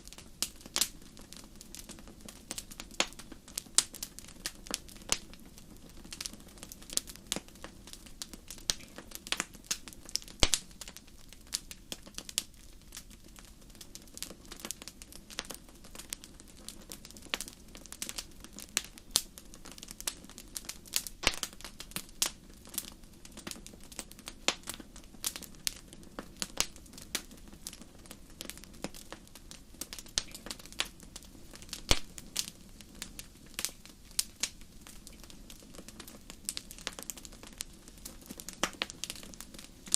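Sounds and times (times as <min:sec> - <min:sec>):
sharp pops of fire: 0:00.0 - 0:39.9
soft low hiss: 0:00.0 - 0:39.9
wood fire crackling: 0:00.0 - 0:39.9.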